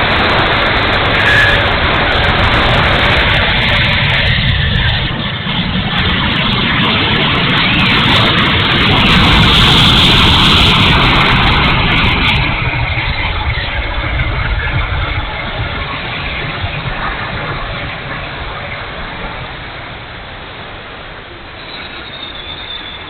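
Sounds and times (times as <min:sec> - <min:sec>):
electric ducted fan rushing: 0:00.0 - 0:21.3
wind rumble on microphone: 0:00.0 - 0:23.0.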